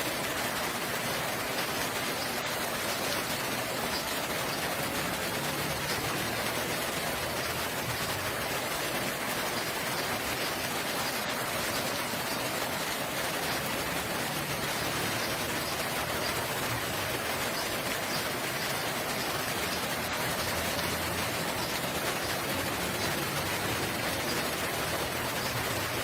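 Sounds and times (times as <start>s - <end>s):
rain falling steadily: 0.0s - 26.0s.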